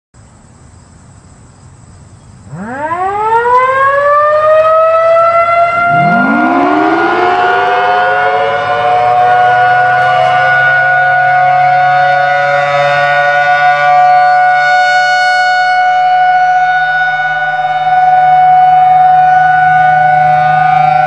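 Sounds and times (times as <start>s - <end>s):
lower siren tone: 2.5s - 21.0s
siren rising whine: 2.5s - 21.0s.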